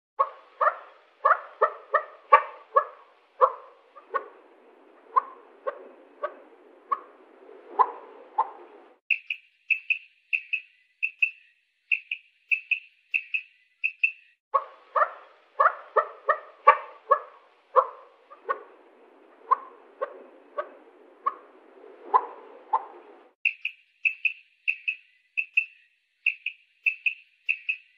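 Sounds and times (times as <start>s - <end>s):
quail calling: 0.2s - 27.9s.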